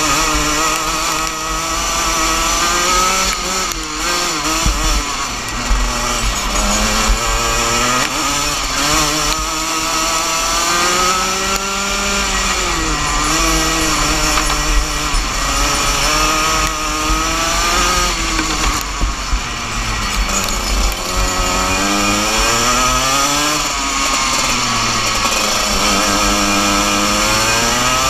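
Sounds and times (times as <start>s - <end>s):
kart engine racing: 0.0s - 28.0s.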